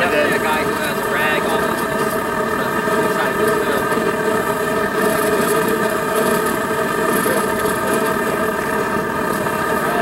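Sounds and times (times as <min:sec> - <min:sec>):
gas burner running: 0:00.0 - 0:10.0.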